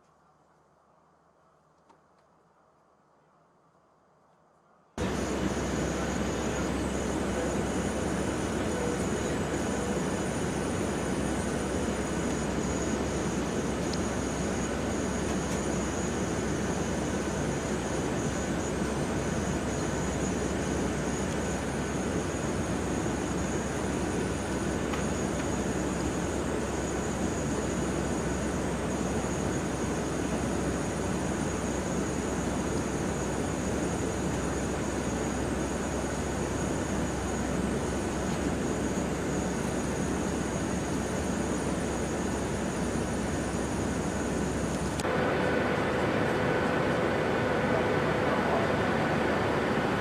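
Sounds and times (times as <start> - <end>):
aircraft cabin engine rush: 5.0 - 50.0.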